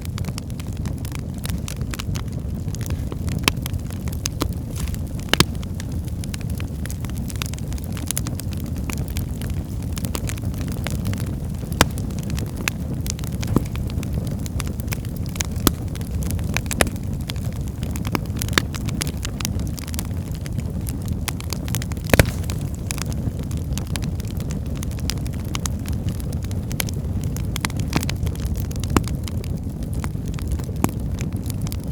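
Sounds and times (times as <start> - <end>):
fire crackles and pops: 0.0 - 31.9
low rumble of flames: 0.0 - 31.9.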